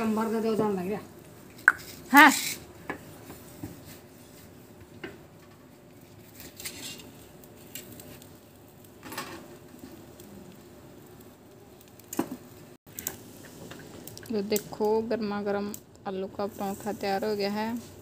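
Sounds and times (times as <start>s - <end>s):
bread sizzling on a griddle: 0.0s - 18.0s.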